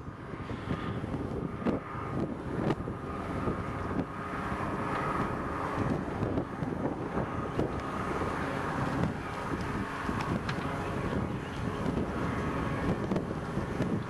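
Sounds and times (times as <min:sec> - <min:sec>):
distant engine drone: 0:00.0 - 0:14.0
wind buffeting microphone: 0:00.0 - 0:14.0.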